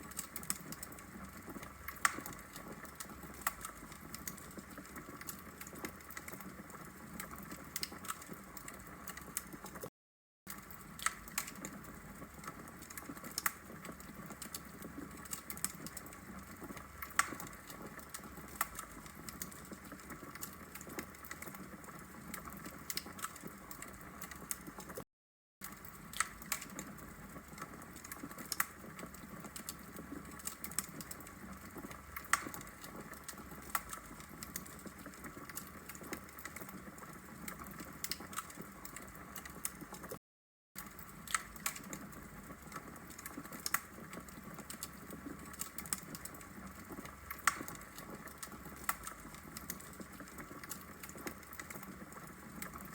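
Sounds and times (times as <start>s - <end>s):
logs crackling in a fireplace: 0.0s - 9.9s, 10.5s - 25.0s, 25.6s - 40.2s, 40.8s - 52.9s.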